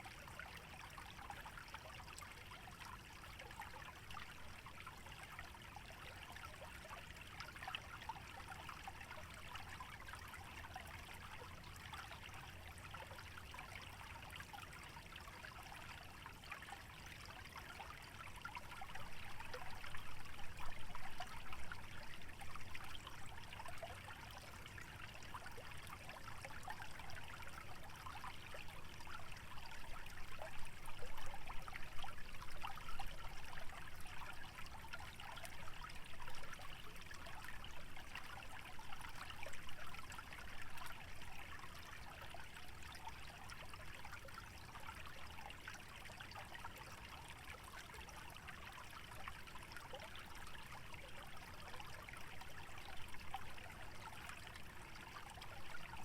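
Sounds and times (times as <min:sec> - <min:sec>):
stream trickling and bubbling: 0:00.0 - 0:56.0.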